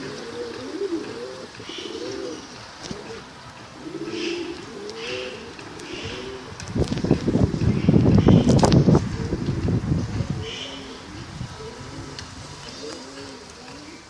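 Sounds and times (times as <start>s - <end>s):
pigeons cooing: 0.0s - 14.0s
small birds chirping: 0.0s - 14.0s.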